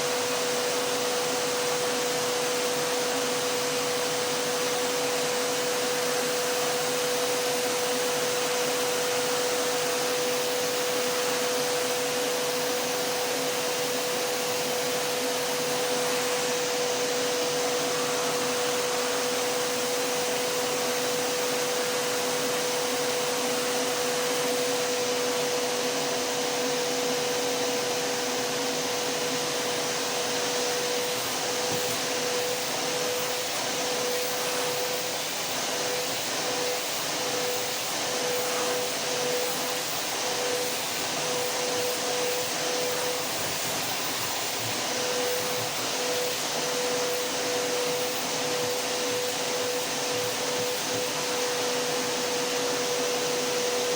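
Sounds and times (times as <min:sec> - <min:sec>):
vacuum cleaner motor running: 0:00.0 - 0:53.9.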